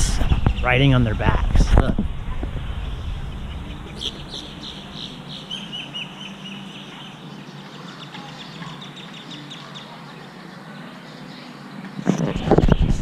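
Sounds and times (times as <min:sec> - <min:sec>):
birds chirping: 0:00.0 - 0:13.0
low outdoor background: 0:00.0 - 0:13.0.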